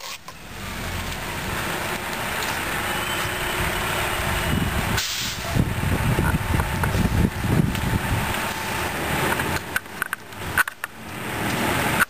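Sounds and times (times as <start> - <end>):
fire crackling: 0.0 - 12.0
truck engine running: 0.2 - 12.0
fire rushing: 0.5 - 12.0.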